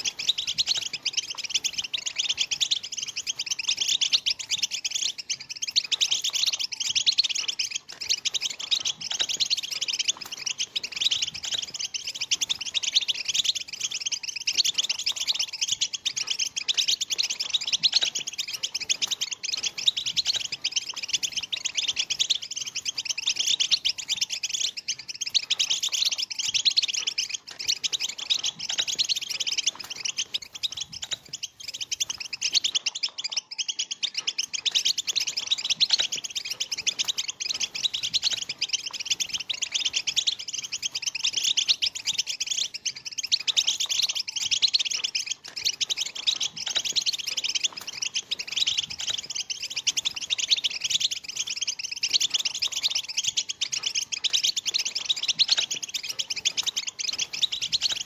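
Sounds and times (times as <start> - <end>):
goldfinches twittering: 0.0 - 58.0.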